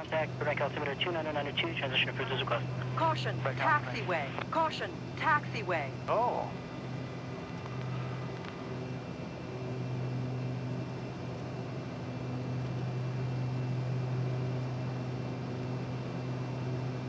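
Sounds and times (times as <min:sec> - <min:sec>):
cockpit low hum: 0:00.0 - 0:17.0.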